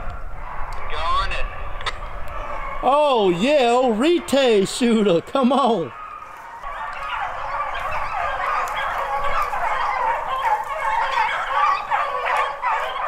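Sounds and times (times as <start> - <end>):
pack of dogs yelping: 0.0 - 13.0.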